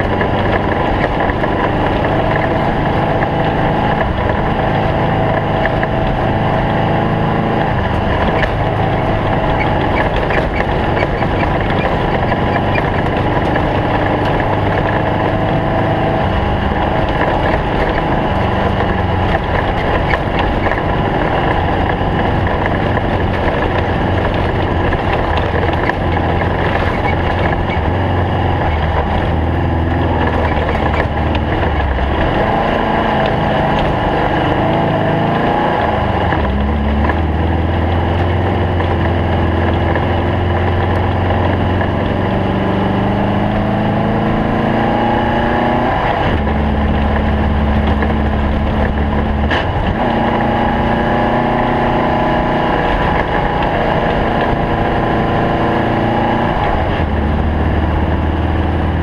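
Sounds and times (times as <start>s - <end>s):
race car engine revving: 0.0s - 59.0s
road and chassis noise: 0.0s - 59.0s.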